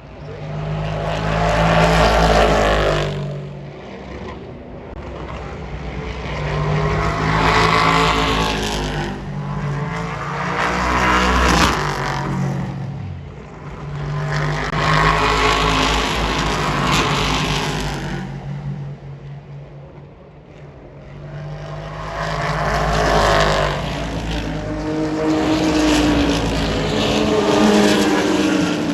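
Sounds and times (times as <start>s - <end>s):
race cars passing at speed: 0.0s - 28.9s.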